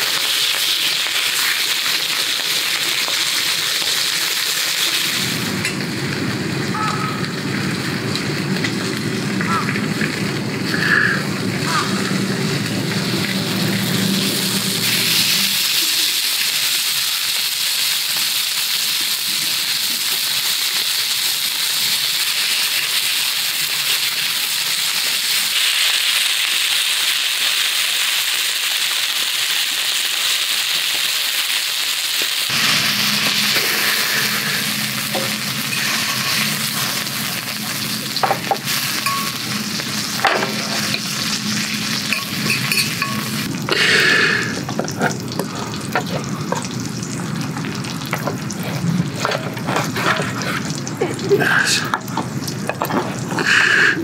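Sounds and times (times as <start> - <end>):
meat sizzling in a frying pan: 0.0 - 51.0.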